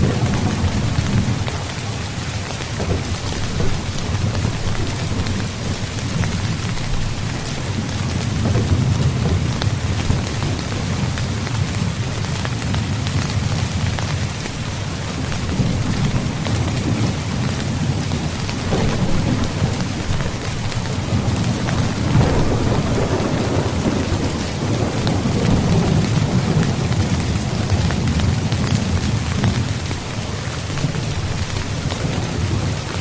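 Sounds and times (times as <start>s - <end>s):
rain falling on a tent: 0.0s - 33.0s.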